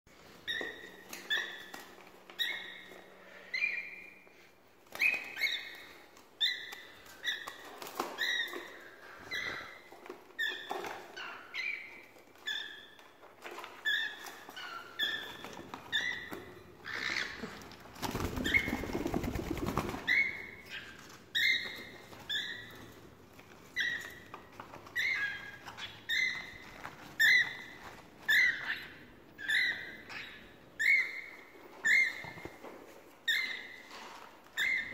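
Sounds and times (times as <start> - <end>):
cockatiels chirping: 0.4 - 4.2, 4.9 - 18.9, 19.9 - 32.6, 33.2 - 34.9.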